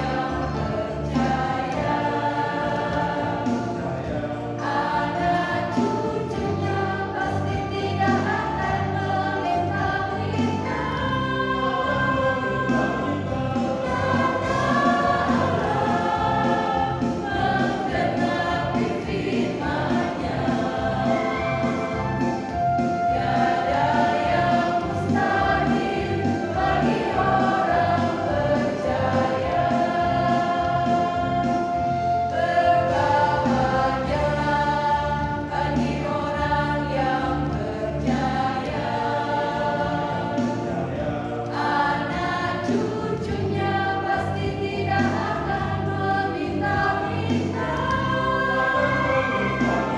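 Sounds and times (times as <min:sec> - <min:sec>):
mixed choir singing a hymn: 0:00.0 - 0:49.9.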